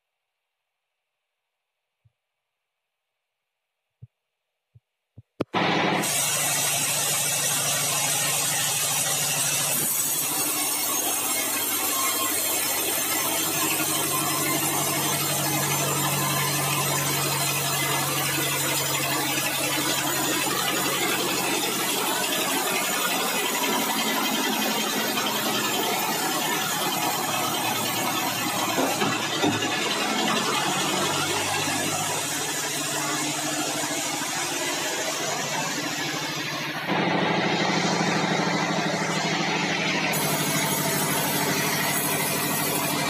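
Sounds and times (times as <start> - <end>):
band saw cutting logs: 5.4 - 43.0.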